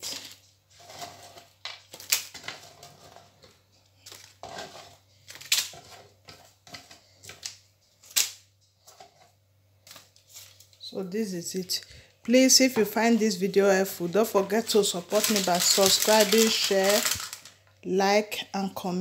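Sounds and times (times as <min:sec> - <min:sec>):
baking paper crinkling: 0:00.0 - 0:17.7.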